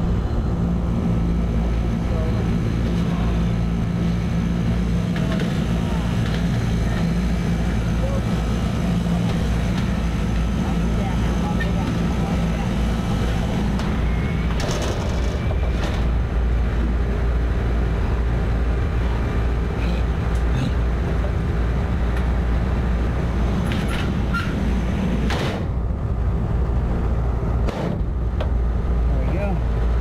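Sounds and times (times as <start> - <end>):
air conditioning unit droning: 0.0 - 30.0.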